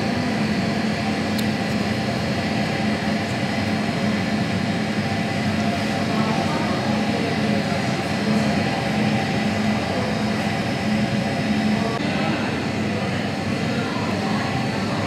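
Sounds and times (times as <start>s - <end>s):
restaurant low hum and rush: 0.0s - 15.0s
faint voices: 1.9s - 15.0s.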